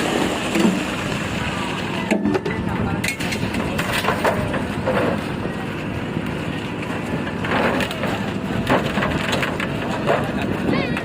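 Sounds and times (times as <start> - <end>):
knocks and clatter of concrete work: 0.0 - 11.0
machinery engine running: 0.0 - 11.0.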